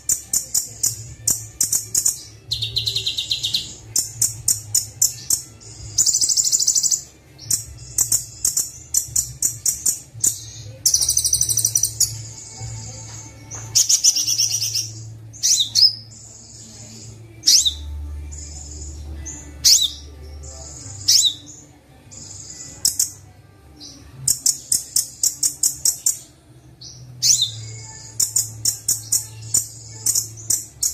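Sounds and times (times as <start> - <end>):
bird singing trills: 0.0 - 30.9.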